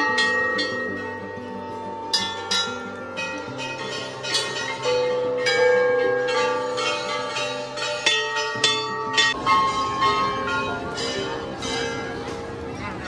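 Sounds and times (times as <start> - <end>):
brass temple bells ringing: 0.0 - 13.0.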